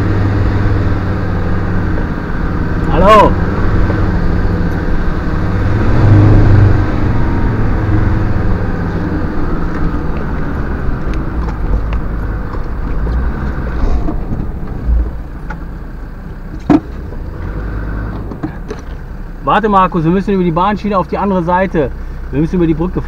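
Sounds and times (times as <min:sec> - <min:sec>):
diesel engine driving: 0:00.0 - 0:23.0.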